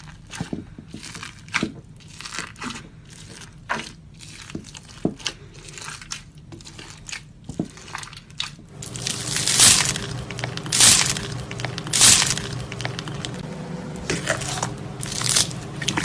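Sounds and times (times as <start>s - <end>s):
slime popping and crackling: 1.0s - 13.4s, 14.3s - 16.0s.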